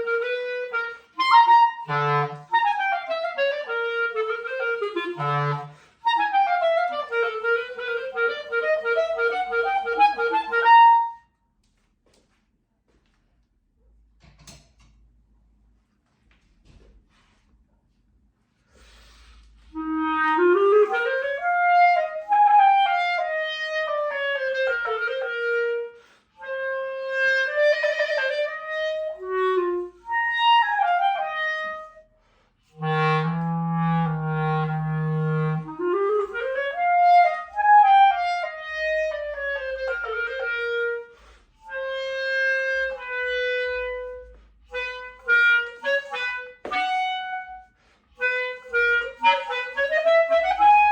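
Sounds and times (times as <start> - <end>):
solo clarinet playing: 0.0 - 11.3, 19.6 - 50.9.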